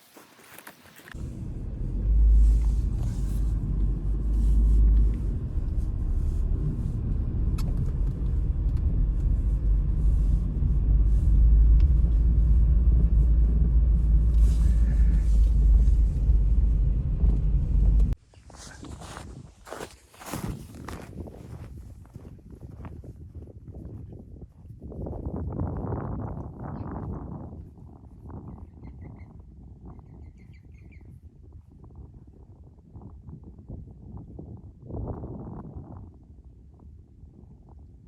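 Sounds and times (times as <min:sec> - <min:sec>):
wind buffeting microphone: 0:01.1 - 0:38.0.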